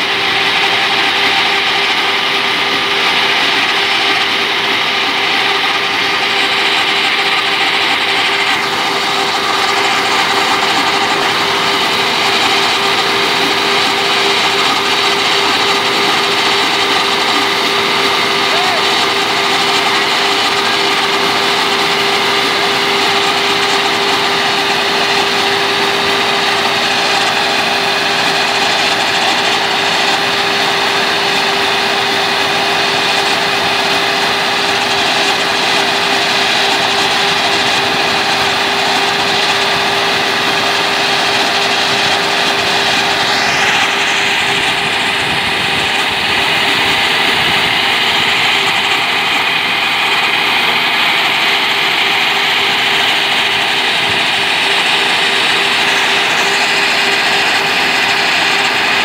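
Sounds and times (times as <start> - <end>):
auger discharging grain: 0.0 - 59.0
combine harvester running: 0.0 - 59.0.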